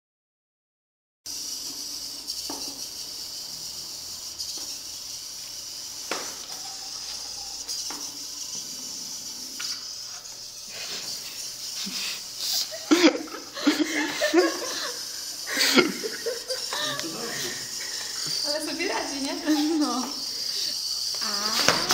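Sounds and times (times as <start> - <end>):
robot motors whirring: 1.3 - 21.9.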